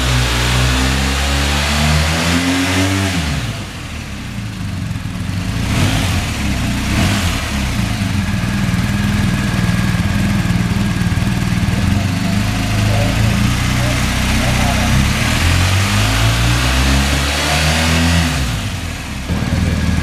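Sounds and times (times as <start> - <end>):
motorcycle engine idling: 3.5 - 20.0.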